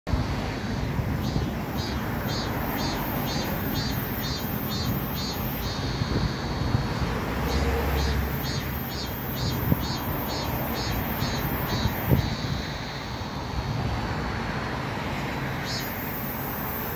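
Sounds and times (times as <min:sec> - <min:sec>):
cars passing: 0:00.1 - 0:16.9
high rhythmic chirping: 0:01.1 - 0:13.8, 0:15.6 - 0:16.9.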